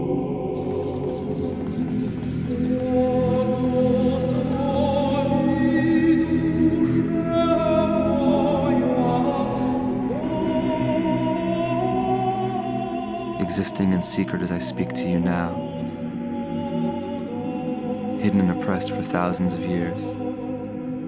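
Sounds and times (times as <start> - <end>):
low drone: 0.0 - 20.0
voices singing long notes: 0.0 - 21.0.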